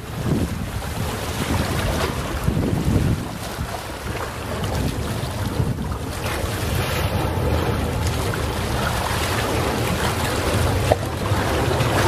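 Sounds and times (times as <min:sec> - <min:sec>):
waves washing on shore: 0:00.0 - 0:12.0
wind rumble on microphone: 0:00.0 - 0:12.0.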